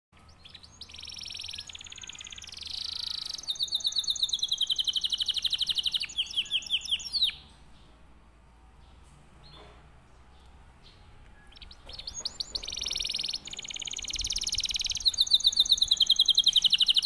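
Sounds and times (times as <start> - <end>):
canary singing: 0.2 - 8.0, 8.8 - 17.0.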